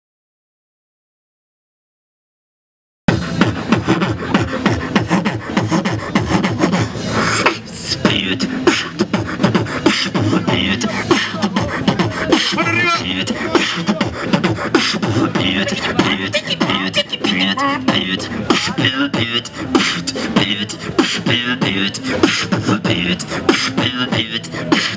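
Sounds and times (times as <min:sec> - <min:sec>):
person beatboxing into microphone: 0:03.1 - 0:24.9.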